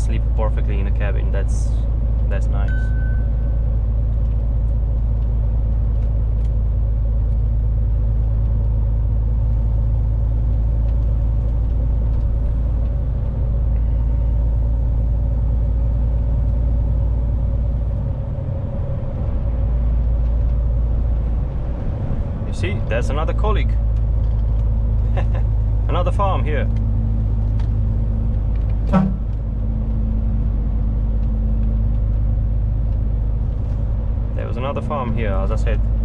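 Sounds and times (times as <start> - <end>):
lorry engine and road rumble: 0.0 - 36.0.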